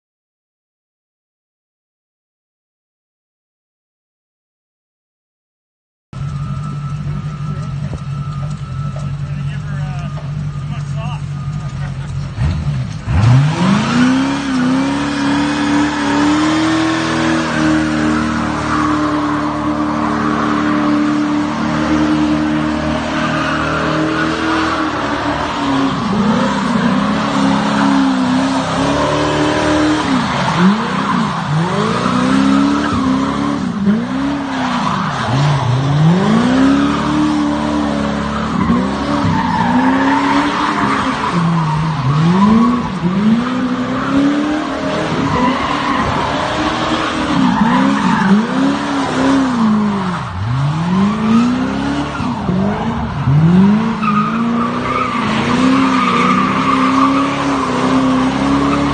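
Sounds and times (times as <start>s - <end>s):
car engine revving: 6.2s - 58.9s
tires squealing on asphalt: 6.2s - 58.9s.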